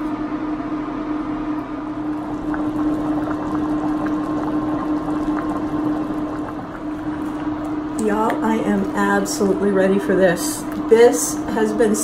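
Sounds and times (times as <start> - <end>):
steady hum: 0.0 - 12.0
soup bubbling: 1.9 - 11.9.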